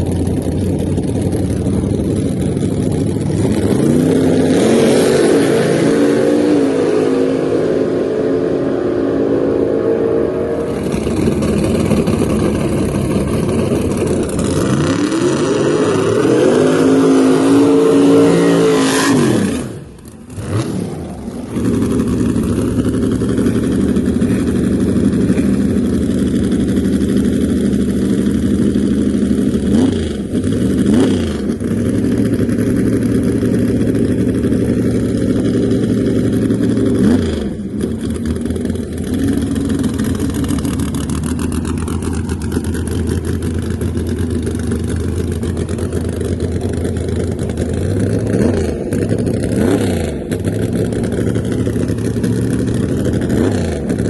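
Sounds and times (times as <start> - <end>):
drag car engines idling: 0.0 - 4.8, 10.6 - 17.7, 18.5 - 54.0
engine throttle blips: 0.0 - 54.0.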